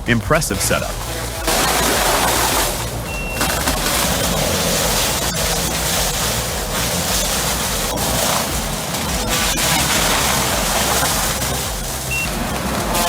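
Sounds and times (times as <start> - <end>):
diesel engine hum: 0.0 - 13.0
high beep: 0.0 - 13.0
wood being shredded: 0.0 - 13.0.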